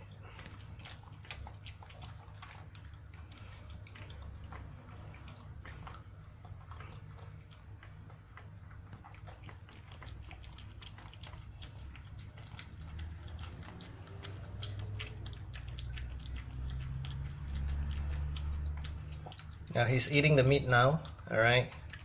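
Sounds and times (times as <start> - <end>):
dog chewing wet clicks: 0.0 - 22.0.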